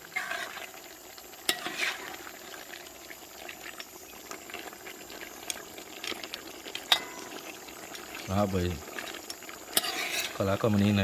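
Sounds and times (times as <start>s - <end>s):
pot of curry bubbling: 0.0s - 11.0s.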